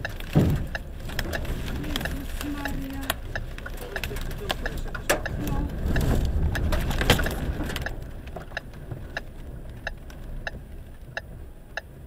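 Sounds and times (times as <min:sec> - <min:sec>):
car collision crunching impact: 0:00.0 - 0:10.2
low vehicle rumble: 0:00.0 - 0:12.0
steady ticking: 0:00.0 - 0:12.0.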